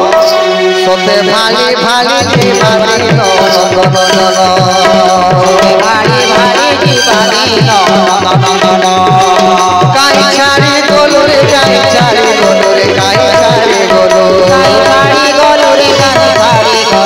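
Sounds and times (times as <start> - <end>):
keyboard melody: 0.0 - 17.0
tabla rhythm: 0.0 - 17.0.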